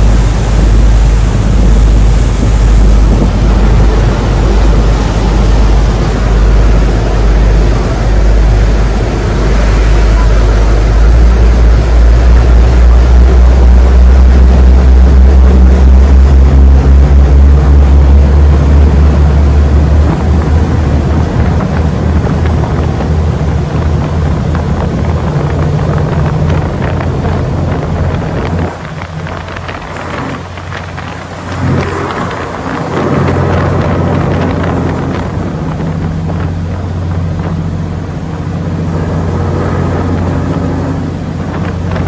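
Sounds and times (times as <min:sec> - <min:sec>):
ferry engines droning: 0:00.0 - 0:42.0
wind buffeting microphone: 0:00.0 - 0:42.0.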